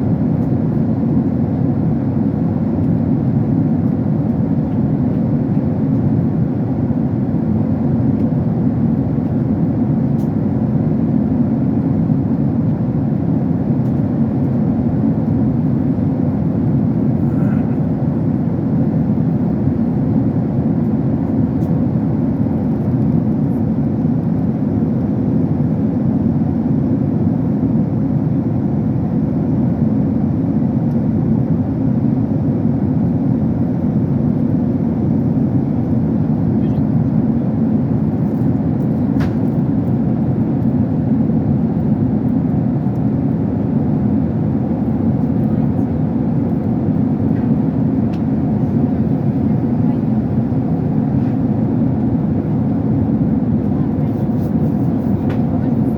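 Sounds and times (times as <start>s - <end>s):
airliner cabin engine noise: 0.0s - 55.9s.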